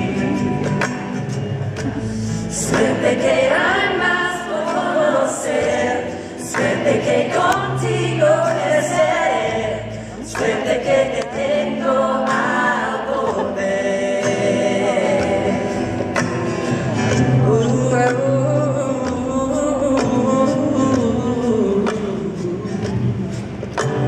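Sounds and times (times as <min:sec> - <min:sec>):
man and woman singing harmony: 0:00.0 - 0:00.9, 0:01.9 - 0:23.3
cello and double bass: 0:00.0 - 0:24.0.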